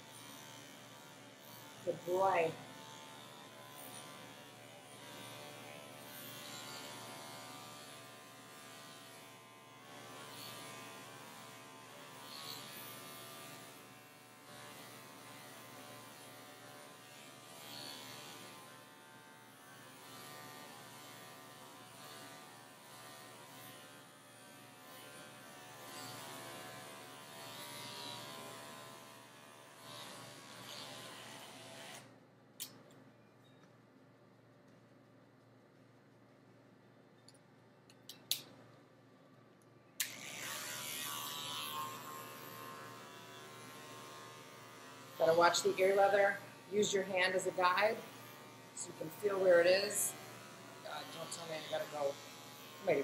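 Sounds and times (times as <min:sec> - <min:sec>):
dog clipper humming: 0:00.0 - 0:32.8, 0:40.0 - 0:53.0.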